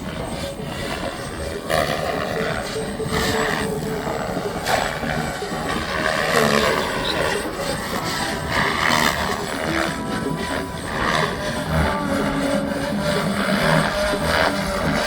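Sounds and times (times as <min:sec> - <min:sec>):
radio-controlled helicopter rotor and motor: 0:00.0 - 0:15.0.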